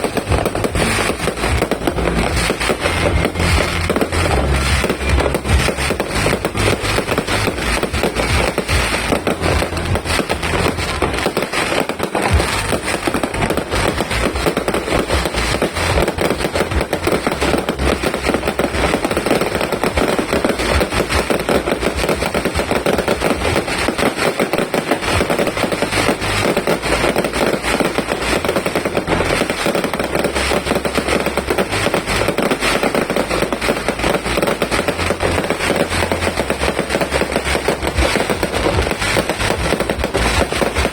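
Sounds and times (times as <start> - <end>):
fireworks rapid cracks and pops: 0.0 - 40.9.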